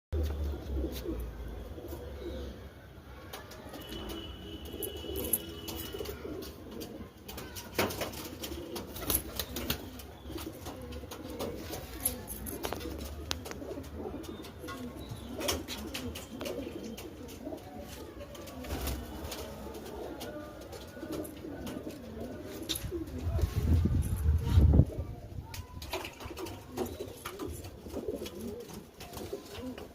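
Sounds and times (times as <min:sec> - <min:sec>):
pigeons cooing: 0:00.2 - 0:29.9.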